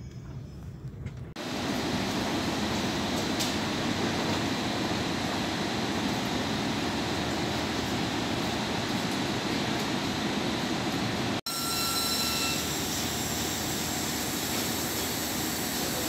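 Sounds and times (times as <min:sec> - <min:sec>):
train ventilation hum and hiss: 0:00.3 - 0:11.4, 0:12.4 - 0:16.0.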